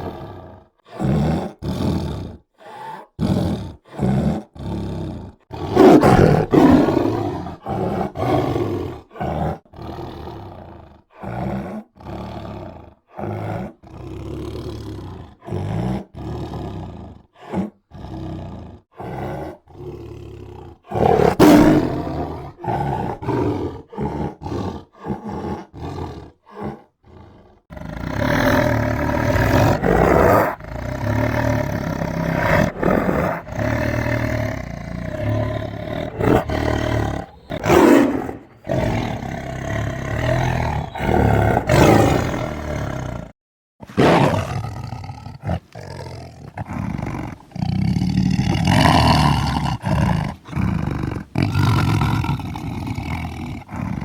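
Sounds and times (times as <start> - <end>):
tiger growling roar: 0.0 - 54.0.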